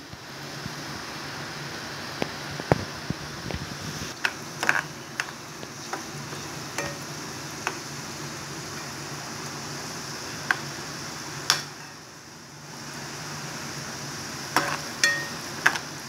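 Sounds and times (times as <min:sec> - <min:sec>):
food sizzling in hot oil: 0:00.2 - 0:16.0.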